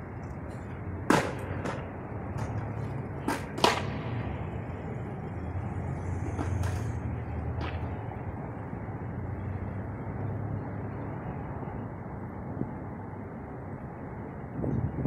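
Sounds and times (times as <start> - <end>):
low hum of city traffic: 0.0 - 15.0.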